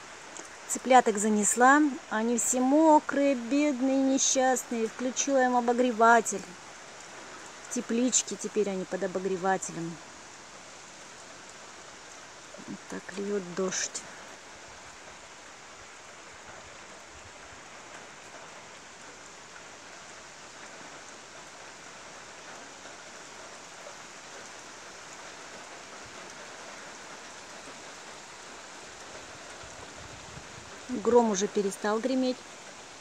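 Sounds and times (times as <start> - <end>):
rain pouring on trees and grass: 0.0 - 33.0.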